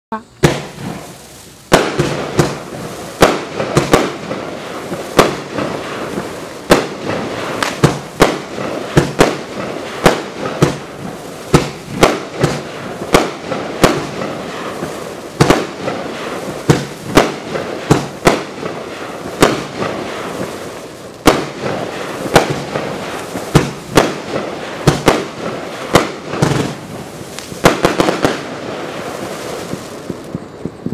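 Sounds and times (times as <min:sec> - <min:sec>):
continuous firework hiss: 0:00.1 - 0:30.9
firework cake shots: 0:00.1 - 0:30.9.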